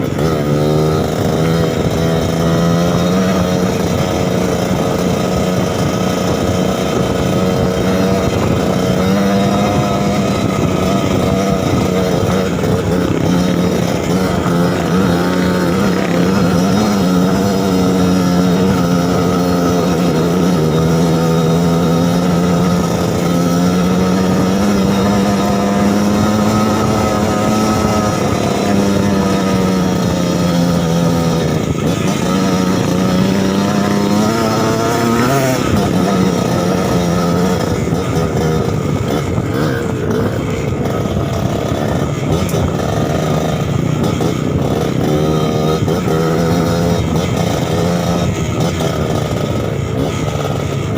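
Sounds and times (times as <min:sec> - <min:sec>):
motorbike engine running: 0:00.0 - 0:50.9.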